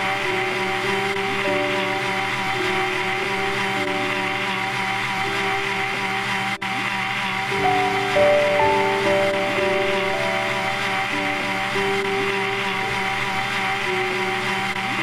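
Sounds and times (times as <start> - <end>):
background music held notes: 0.0 - 15.0
mixer grinder running: 0.0 - 15.0.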